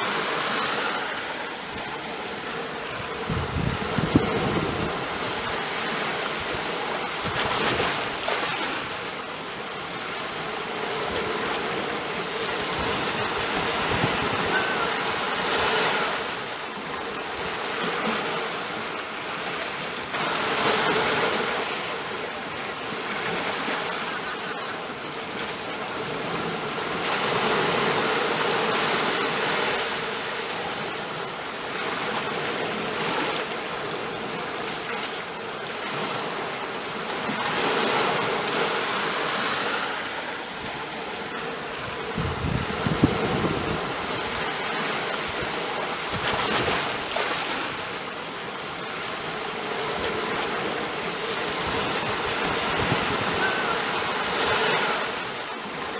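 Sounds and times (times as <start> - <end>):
sea waves washing in: 0.0 - 55.9.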